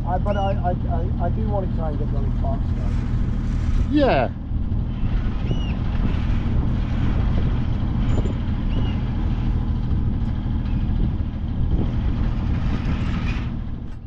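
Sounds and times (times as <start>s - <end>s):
boat engine droning: 0.0s - 14.0s
wind: 0.0s - 14.0s.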